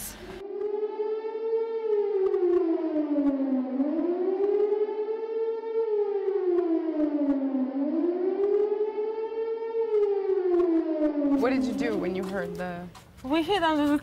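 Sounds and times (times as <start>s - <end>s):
air-raid siren wailing: 0.4s - 13.9s.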